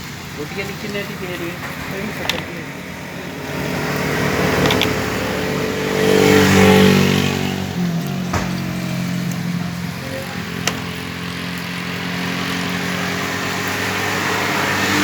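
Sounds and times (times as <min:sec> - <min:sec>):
vehicle engine passing: 0:01.3 - 0:15.0.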